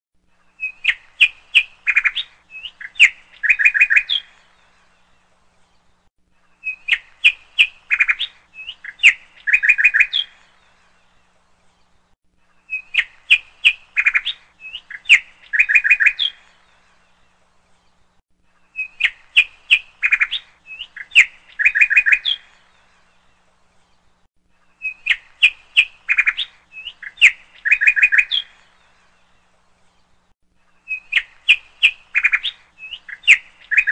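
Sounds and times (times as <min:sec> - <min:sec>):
songbird chirping and trilling: 0:00.3 - 0:33.9.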